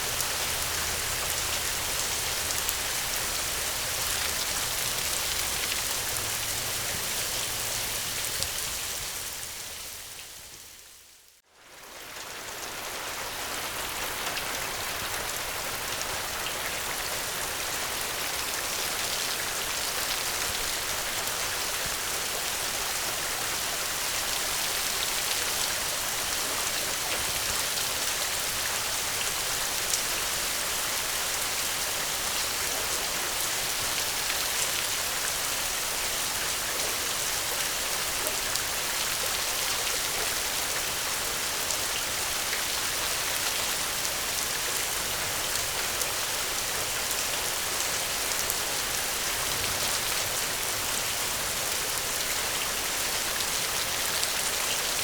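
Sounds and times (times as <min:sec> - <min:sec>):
heavy rain hiss: 0:00.0 - 0:55.0.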